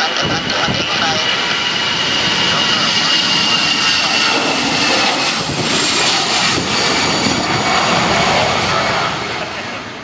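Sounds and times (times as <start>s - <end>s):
airliner engines passing: 0.0s - 10.0s.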